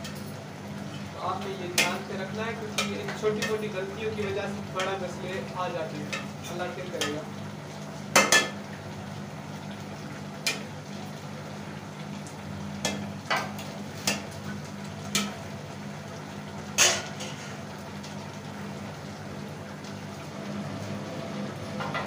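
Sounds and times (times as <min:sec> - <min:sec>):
curry bubbling in a pot: 0:00.0 - 0:22.0
gas burner hum: 0:00.0 - 0:22.0.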